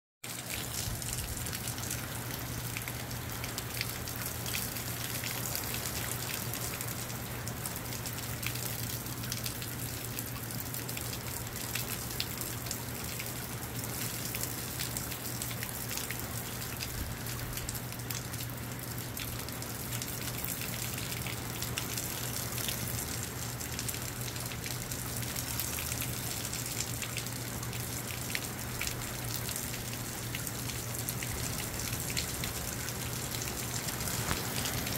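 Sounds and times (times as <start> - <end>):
rain falling: 0.2 - 34.9
raindrops ticking on surfaces: 0.2 - 34.9.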